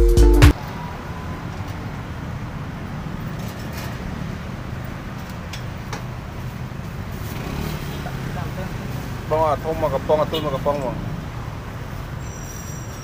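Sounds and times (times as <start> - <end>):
low rumble of traffic: 0.5 - 13.0.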